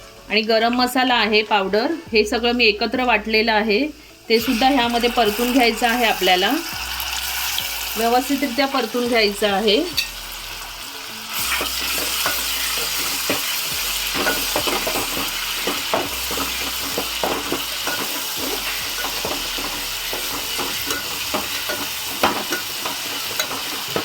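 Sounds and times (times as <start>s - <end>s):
paste sizzling in hot oil: 4.2s - 24.0s.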